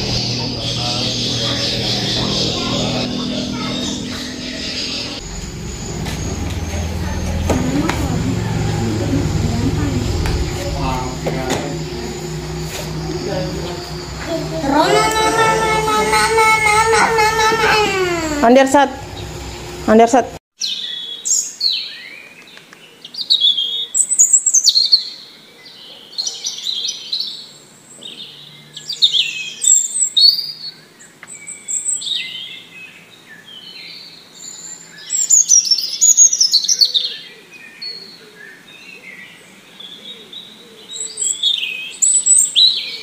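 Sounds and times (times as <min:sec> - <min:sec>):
songbirds chirping: 0:00.0 - 0:43.0.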